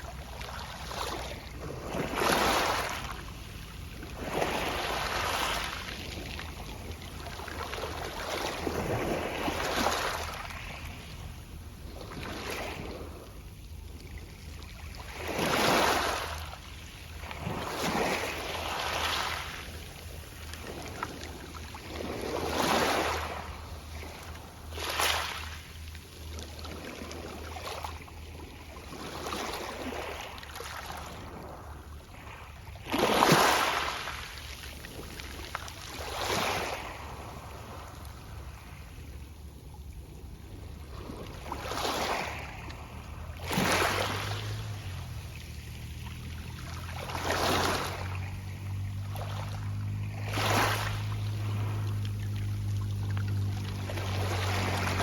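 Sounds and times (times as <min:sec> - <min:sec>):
waves rattling beach pebbles: 0:00.0 - 0:39.1, 0:40.3 - 0:55.0.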